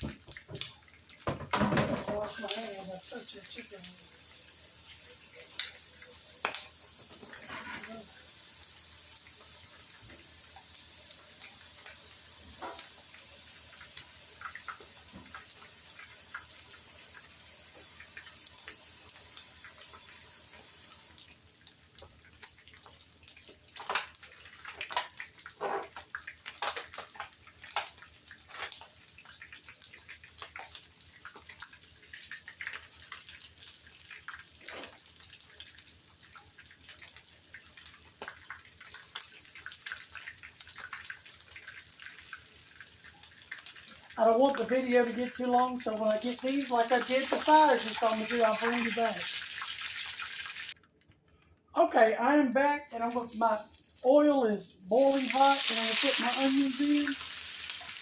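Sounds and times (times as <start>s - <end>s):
tap water running: 0.0s - 50.9s, 53.0s - 58.0s
water splashes and drips: 0.0s - 51.5s, 53.0s - 58.0s.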